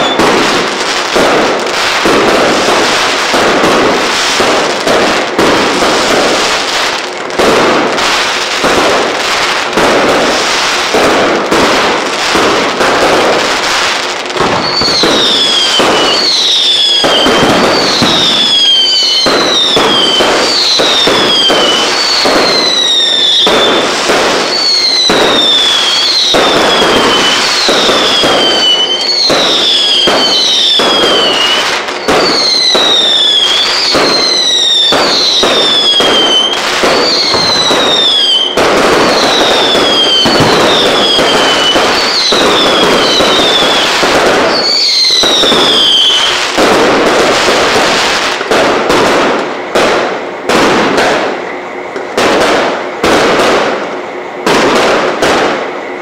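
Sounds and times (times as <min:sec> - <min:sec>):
fireworks bursting and crackling: 0:00.0 - 0:56.0
whistling fireworks: 0:00.0 - 0:56.0.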